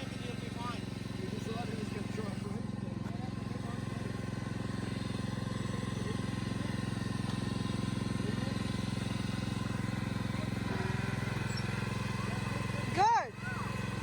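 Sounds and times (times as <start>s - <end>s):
small tractor engine running: 0.0s - 14.0s.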